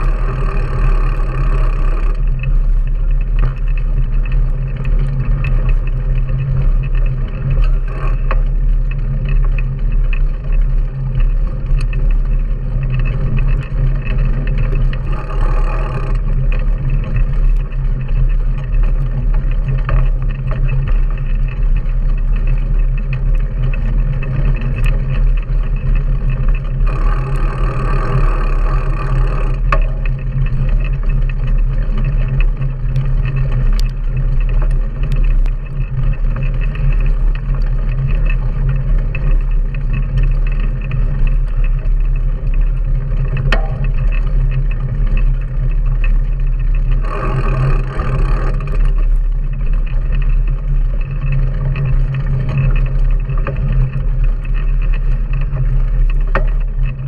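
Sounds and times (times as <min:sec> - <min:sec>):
knobby tyres rolling on dirt: 0:00.0 - 0:57.0
wind rumbling on microphone: 0:00.0 - 0:57.0.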